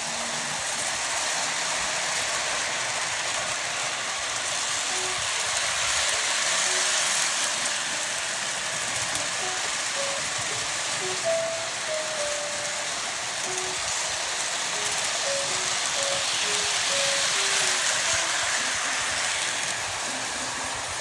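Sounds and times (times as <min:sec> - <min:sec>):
model train rolling on track: 0:00.0 - 0:21.0.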